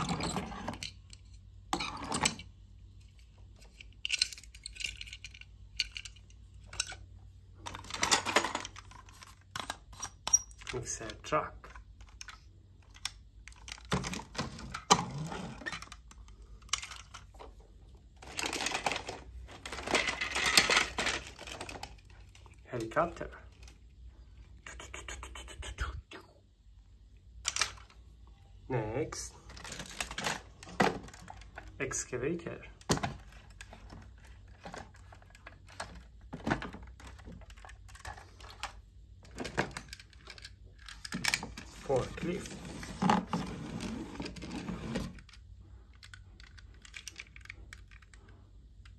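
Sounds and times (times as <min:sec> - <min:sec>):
toy vehicles clattering together: 0:00.0 - 0:17.6, 0:18.2 - 0:23.9, 0:27.4 - 0:28.0, 0:29.4 - 0:43.4, 0:45.0 - 0:48.9.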